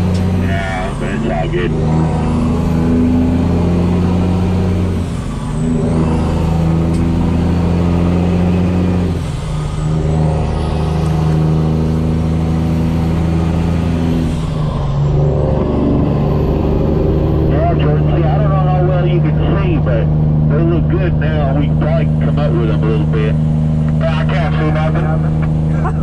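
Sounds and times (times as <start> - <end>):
diesel truck engine: 0.0 - 26.0.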